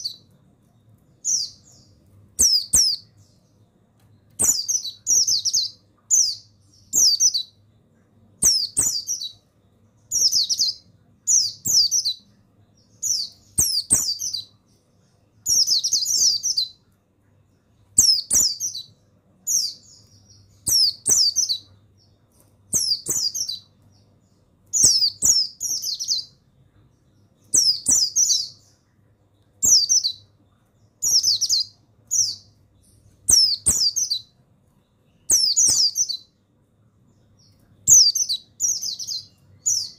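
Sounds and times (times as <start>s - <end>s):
bird twittering chirps: 0.0s - 36.4s, 37.0s - 39.9s
faint low hum: 0.0s - 39.9s.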